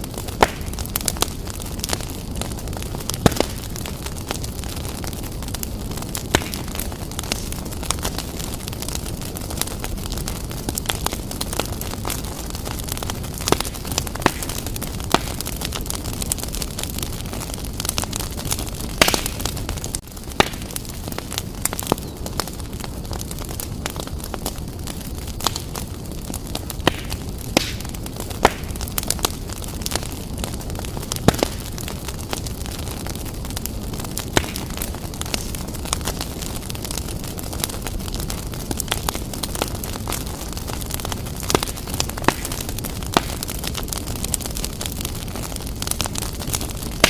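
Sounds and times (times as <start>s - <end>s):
fire crackling in fireplace: 0.0s - 47.0s.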